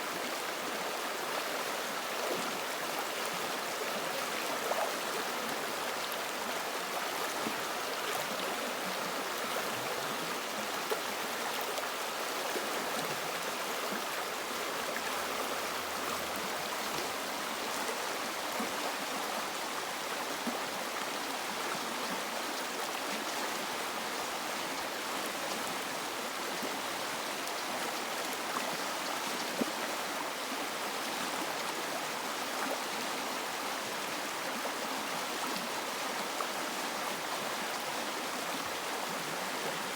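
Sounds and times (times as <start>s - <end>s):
river water flowing over rocks: 0.1s - 39.9s.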